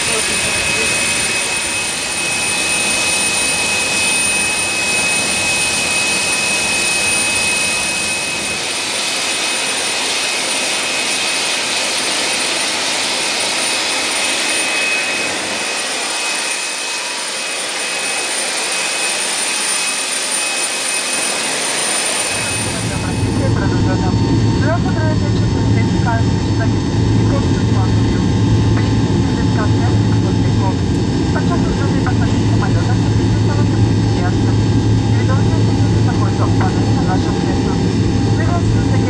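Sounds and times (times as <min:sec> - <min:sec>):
high-pitched whining tones: 0:00.0 - 0:09.3, 0:14.2 - 0:39.0.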